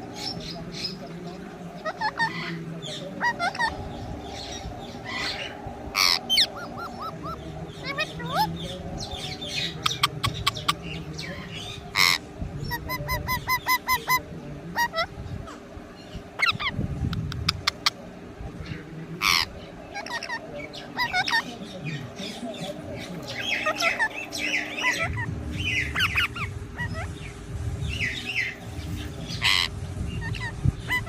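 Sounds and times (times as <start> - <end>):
parrot squawking and chirping: 0.0 - 18.0, 18.6 - 31.0.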